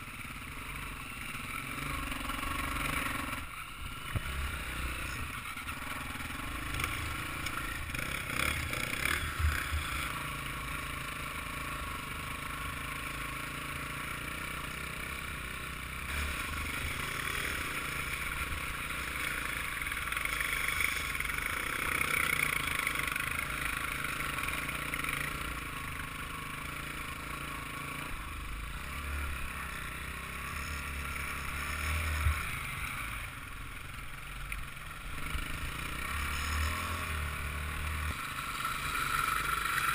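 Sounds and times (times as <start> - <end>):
motorbike engine revving: 0.4 - 33.6, 35.0 - 39.9.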